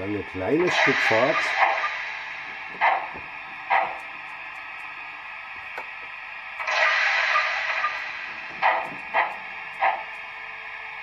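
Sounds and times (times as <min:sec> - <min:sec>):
steam hiss: 0:00.0 - 0:11.0
steam locomotive chuffs: 0:00.0 - 0:11.0.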